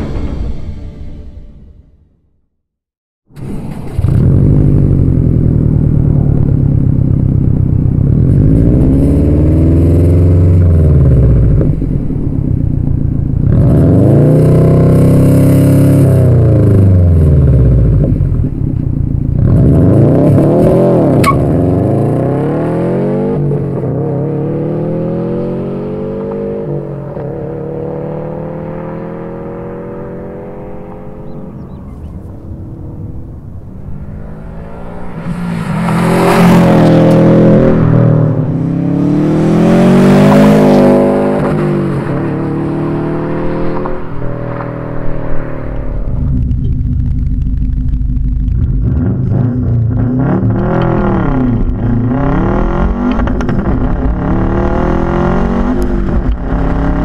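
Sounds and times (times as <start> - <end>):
car engine revving: 3.4 - 57.0
car pulling away shifting up: 3.4 - 57.0.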